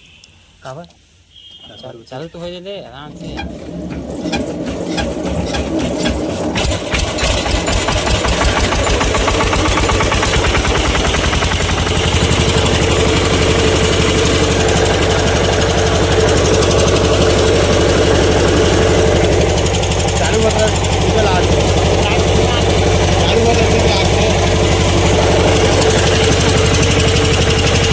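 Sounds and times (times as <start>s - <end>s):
generator engine running: 1.8s - 27.9s.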